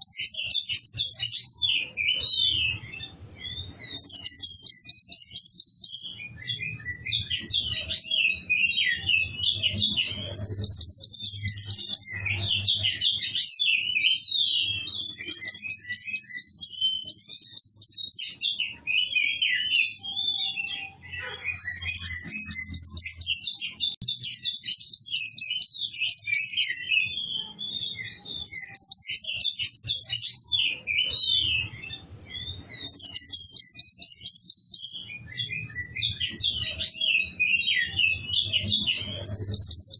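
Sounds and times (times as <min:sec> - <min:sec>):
songbird singing trills: 0:00.0 - 0:39.9.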